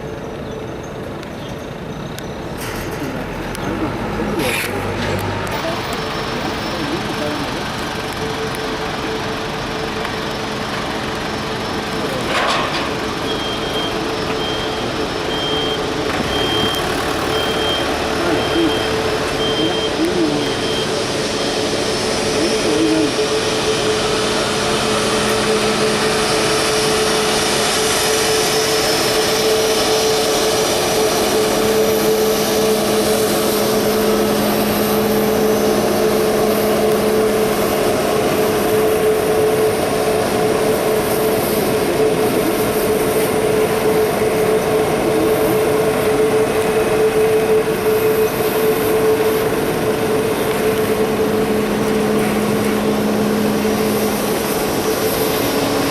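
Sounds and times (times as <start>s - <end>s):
jet engines running: 0.0s - 55.9s.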